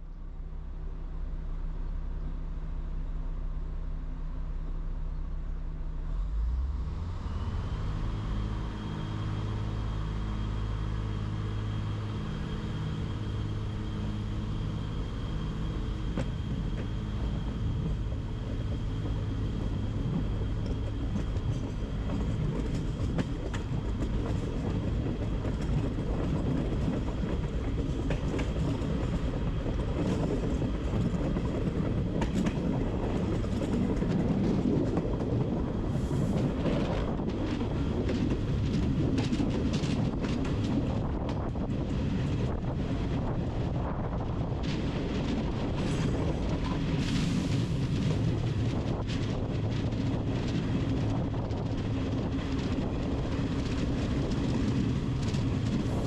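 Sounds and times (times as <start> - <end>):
train low hum: 0.0 - 56.0
wheels rattling on rails: 6.1 - 56.0.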